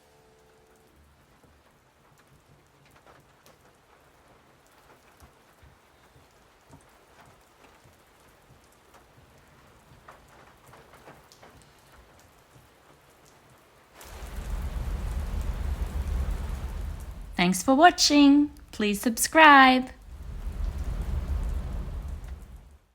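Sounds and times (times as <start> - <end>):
faint steady rain: 0.0 - 22.9.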